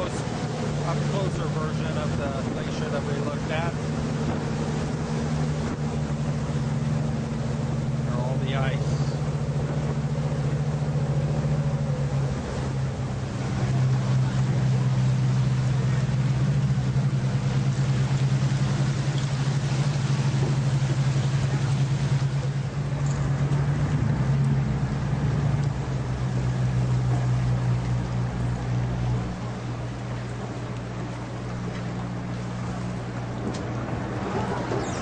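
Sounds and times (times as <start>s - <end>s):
constant hiss: 0.0s - 34.1s
boat engine droning: 0.0s - 35.0s.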